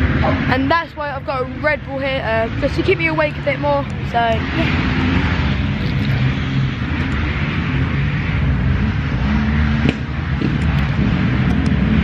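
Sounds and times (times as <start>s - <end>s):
dirt bike engines droning: 0.0s - 12.0s.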